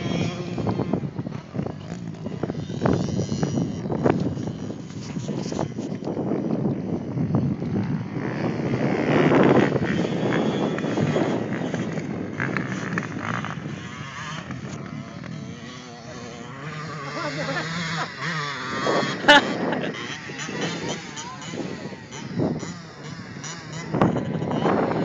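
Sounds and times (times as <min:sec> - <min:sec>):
motocross engines revving: 0:00.0 - 0:25.0.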